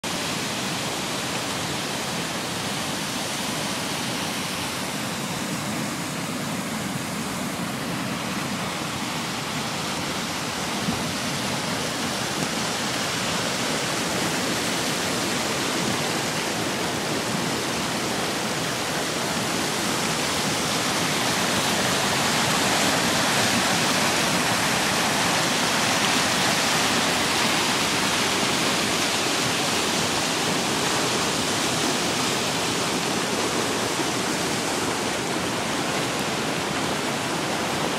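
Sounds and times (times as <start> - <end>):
water rushing over a dam: 0.0 - 37.9.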